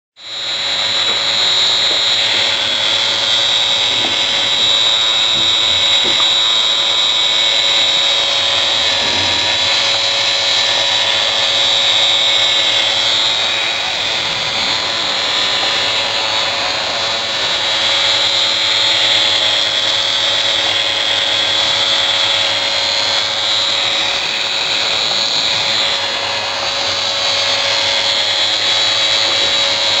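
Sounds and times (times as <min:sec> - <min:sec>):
small electric motor whining: 0:00.2 - 0:30.0.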